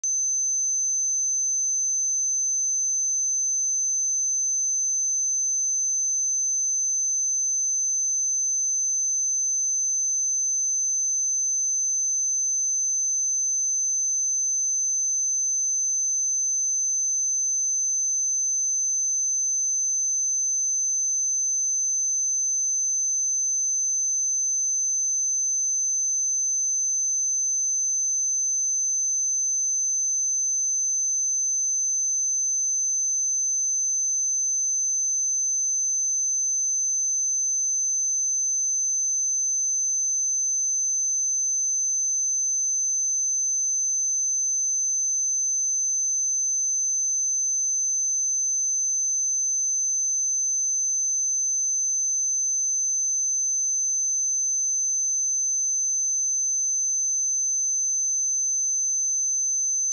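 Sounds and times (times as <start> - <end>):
high-pitched sine test tone: 0.0 - 59.9.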